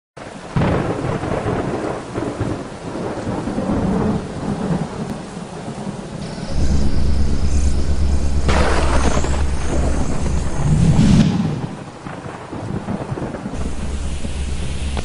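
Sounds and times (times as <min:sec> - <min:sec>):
rain falling: 0:00.2 - 0:15.0
thunder rumbling: 0:00.2 - 0:15.0
thunderclap: 0:00.5 - 0:15.0.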